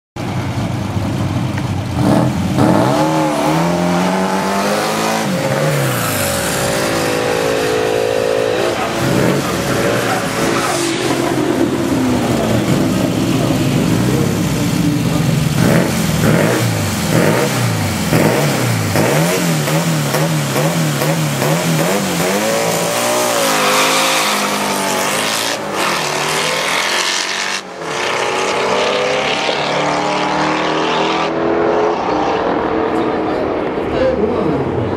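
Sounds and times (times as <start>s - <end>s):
car engines revving: 0.2s - 34.9s
cars accelerating at full throttle: 0.2s - 34.9s.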